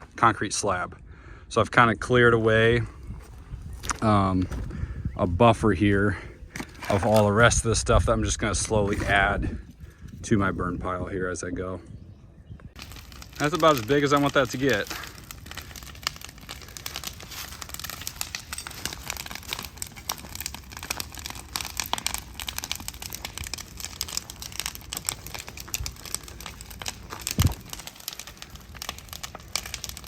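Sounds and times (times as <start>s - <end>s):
wood fire crackling and popping: 2.4s - 10.3s, 12.6s - 30.0s.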